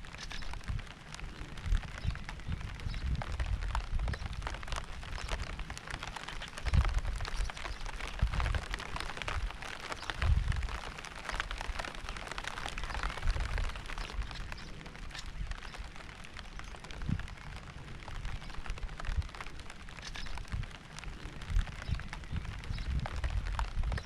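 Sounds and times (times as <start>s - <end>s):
low rumbles: 0.0s - 24.0s
steady rain drops ticking: 0.0s - 24.0s.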